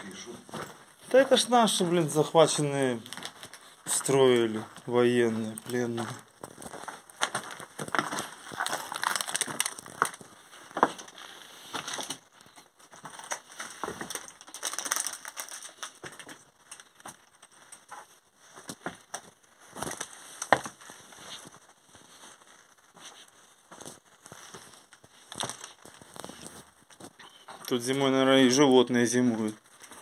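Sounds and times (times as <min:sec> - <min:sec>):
footsteps crunching on rubble: 0:00.0 - 0:28.5.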